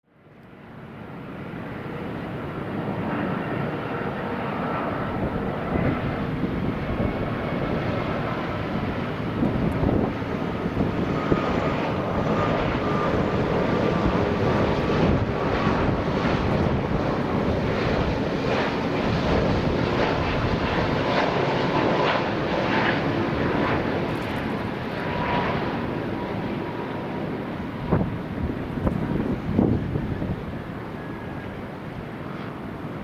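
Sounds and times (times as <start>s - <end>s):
jet engines rumbling and whining: 0.1s - 33.0s.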